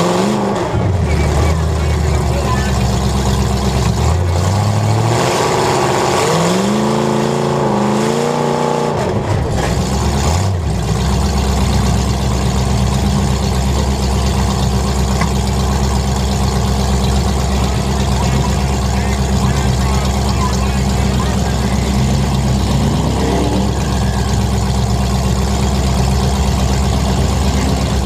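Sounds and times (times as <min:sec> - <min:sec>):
car engines running: 0:00.0 - 0:28.0
engine revving: 0:00.0 - 0:28.0.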